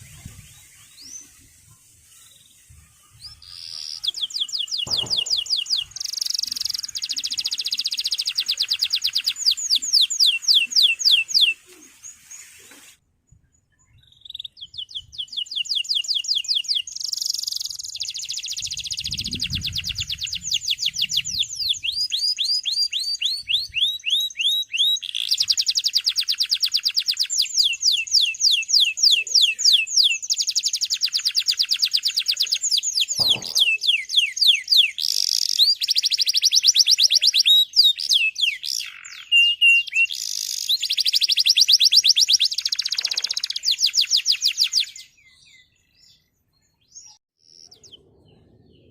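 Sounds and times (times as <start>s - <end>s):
canary singing trills: 0.0s - 12.5s, 13.8s - 48.9s.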